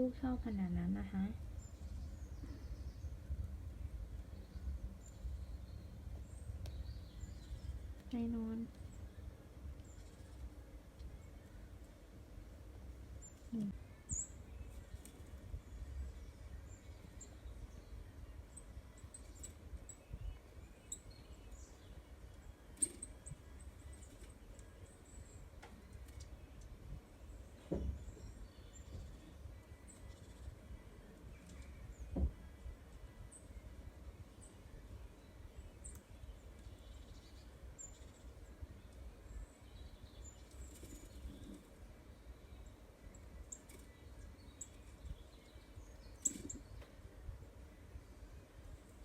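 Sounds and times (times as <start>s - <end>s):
low background rumble: 0.0s - 49.0s.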